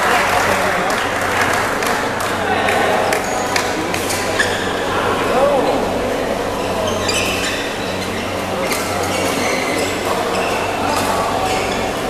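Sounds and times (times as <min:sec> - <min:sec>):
spectators chattering: 0:00.0 - 0:12.0
steady low hum: 0:00.0 - 0:12.0.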